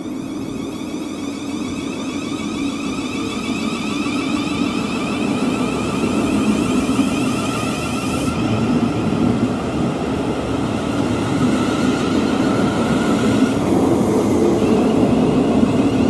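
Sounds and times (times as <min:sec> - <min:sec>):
electric train running: 0:00.0 - 0:16.0
higher train whine: 0:00.0 - 0:16.0.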